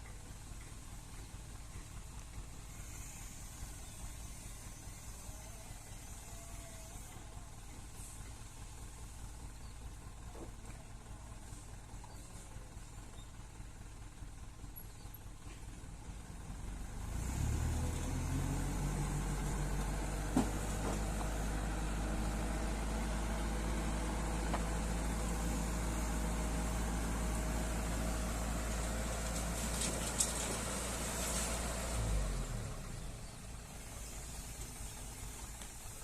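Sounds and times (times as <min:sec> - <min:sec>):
diesel truck engine: 0:00.0 - 0:36.0.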